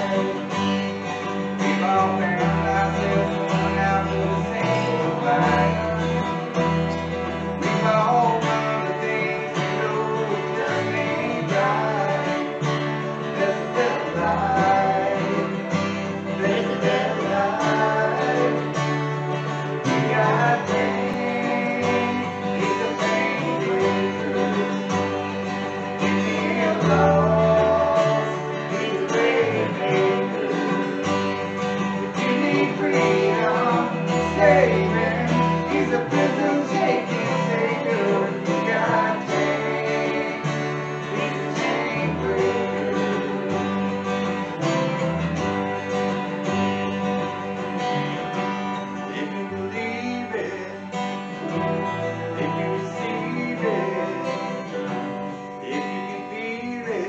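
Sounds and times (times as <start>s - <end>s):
electric bass notes: 0.0s - 49.7s
strummed acoustic guitar: 0.0s - 57.0s.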